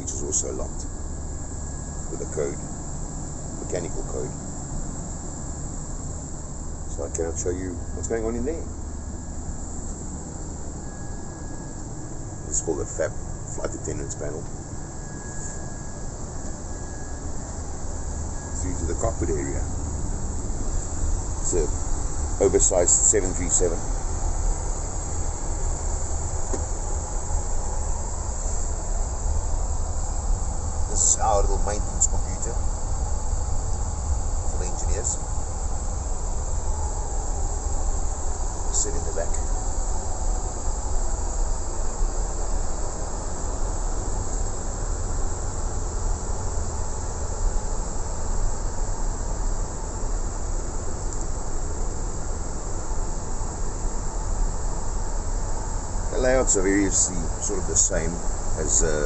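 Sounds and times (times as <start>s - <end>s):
low rumble: 0.0s - 47.8s
air conditioning hiss: 0.0s - 59.0s.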